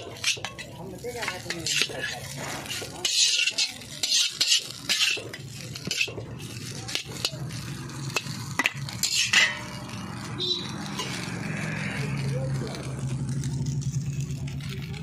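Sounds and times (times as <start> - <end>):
food sizzling: 0.0 - 15.0
metal spatula scraping wok: 0.0 - 15.0.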